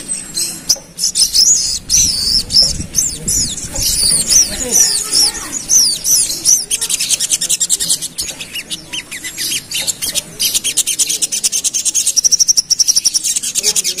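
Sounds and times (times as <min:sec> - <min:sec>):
bird high chipping notes: 0:00.0 - 0:14.0
bird trill: 0:00.0 - 0:14.0.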